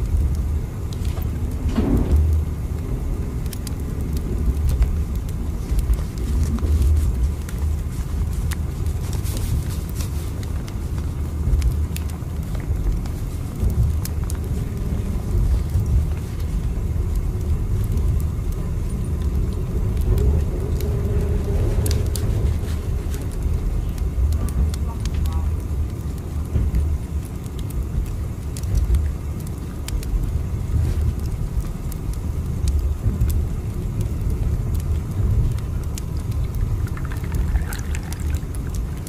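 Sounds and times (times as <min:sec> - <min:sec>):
faint clicks and rattles: 0:00.0 - 0:39.0
low rumble of moving train: 0:00.0 - 0:39.0.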